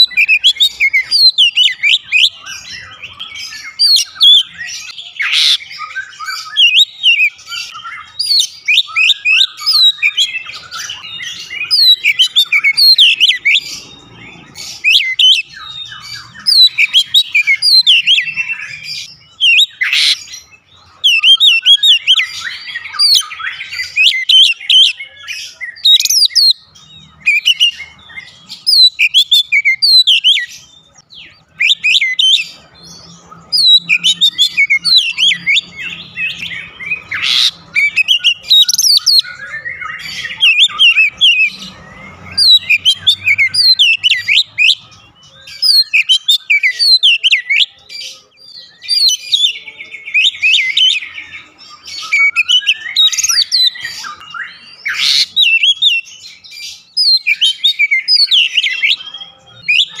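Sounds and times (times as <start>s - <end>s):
bird singing whistles and chirps: 0.0s - 60.0s.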